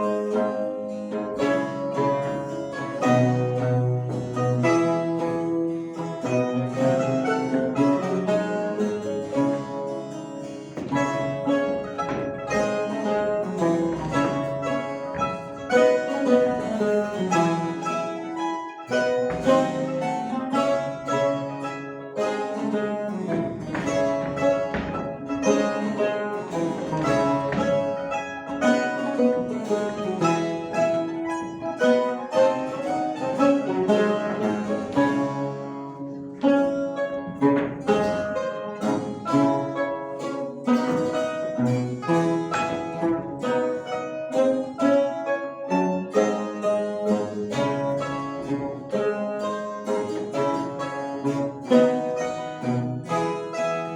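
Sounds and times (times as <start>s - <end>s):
mandolin ensemble playing: 0.0s - 53.9s.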